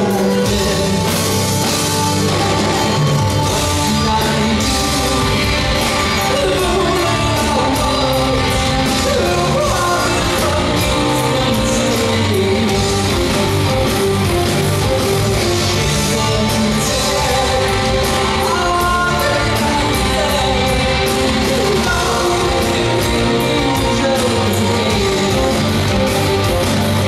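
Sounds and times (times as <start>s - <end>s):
live rock band playing: 0.0s - 27.0s
male lead vocal: 0.0s - 27.0s.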